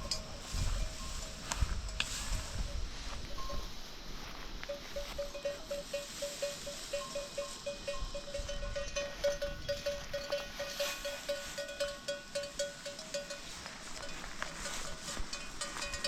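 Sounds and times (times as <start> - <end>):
livestock bells clinking: 0.0 - 16.0.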